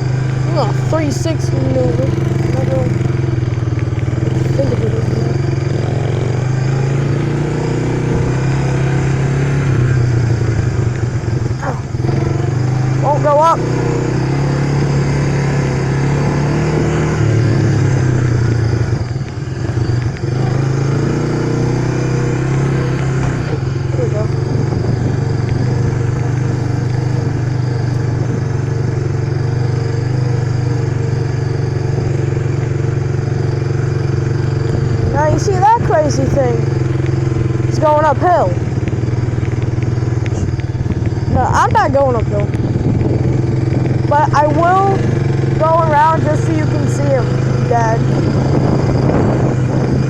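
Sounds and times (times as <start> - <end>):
small vehicle engine running: 0.0 - 50.0.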